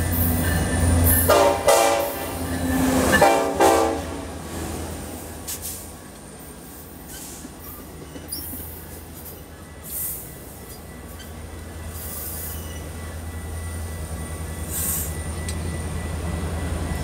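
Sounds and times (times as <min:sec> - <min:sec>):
train cars rumbling past: 0:00.0 - 0:17.0.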